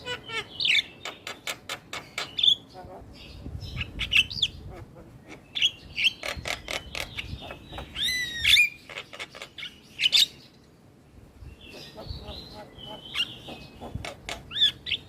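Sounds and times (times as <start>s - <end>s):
myna singing clicks and chirps: 0.3s - 10.6s, 11.5s - 15.0s.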